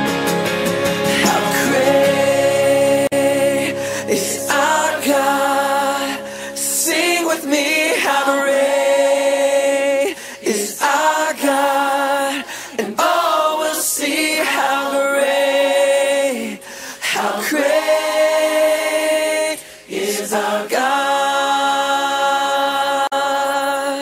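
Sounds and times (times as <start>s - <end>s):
choir singing unaccompanied: 1.2s - 23.3s.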